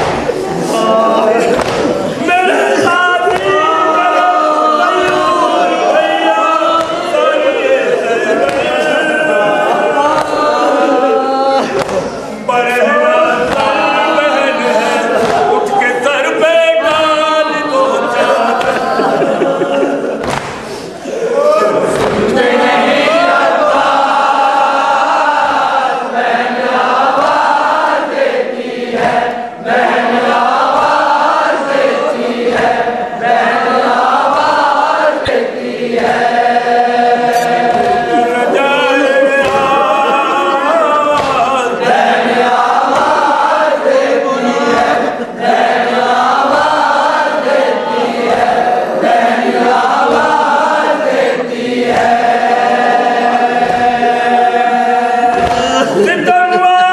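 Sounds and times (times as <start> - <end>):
male voices chanting a lament: 0.0 - 56.9.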